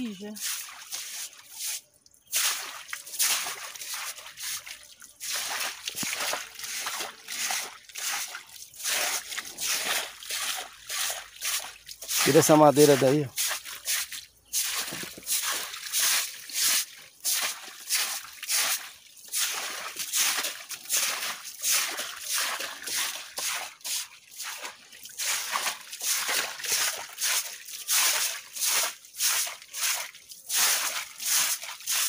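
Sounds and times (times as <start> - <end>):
broom sweeping wet ground: 0.0 - 32.0.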